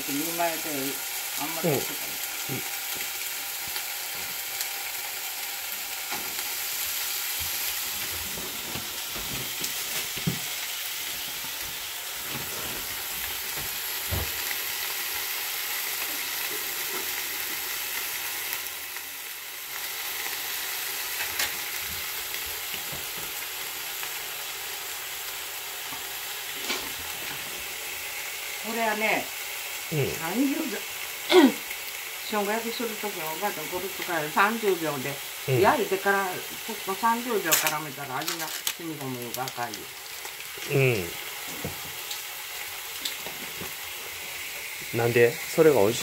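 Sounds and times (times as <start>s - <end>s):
meat sizzling in a frying pan: 0.0s - 46.0s.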